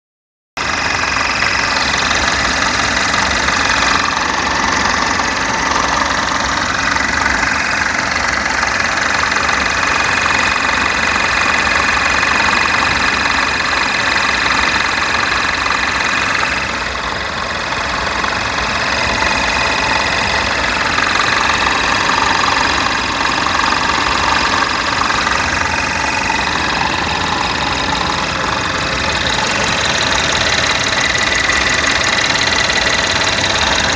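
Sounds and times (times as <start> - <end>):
car engine idling: 0.6 - 33.9
weird engine noise: 0.6 - 33.9.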